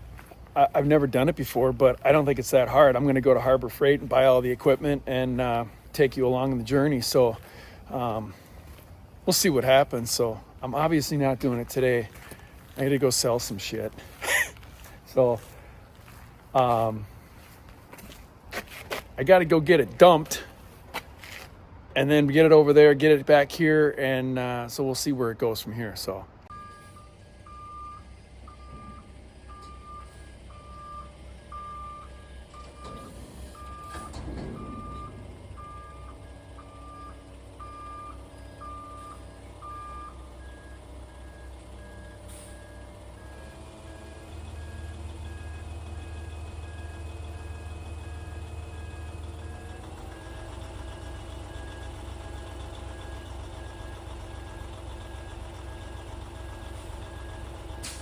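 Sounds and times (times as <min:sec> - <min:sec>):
truck backup alarm beeping: 0:00.0 - 0:18.1, 0:26.4 - 0:58.0
truck engine running: 0:00.0 - 0:21.2, 0:26.5 - 0:58.0.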